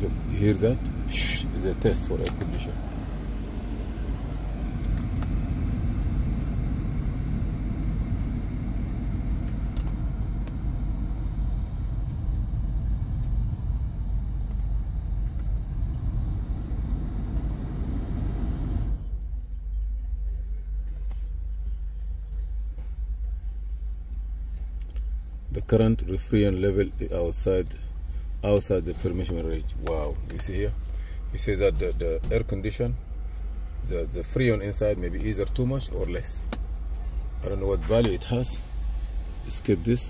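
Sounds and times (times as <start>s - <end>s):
blower fan hissing: 0.0s - 19.4s, 20.2s - 40.0s
low rumble: 0.0s - 40.0s.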